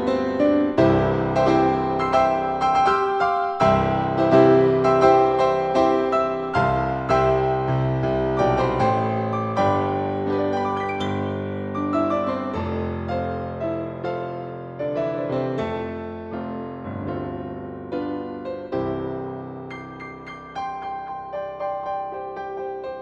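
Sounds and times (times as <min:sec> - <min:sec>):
slow gentle piano piece: 0:00.0 - 0:23.0.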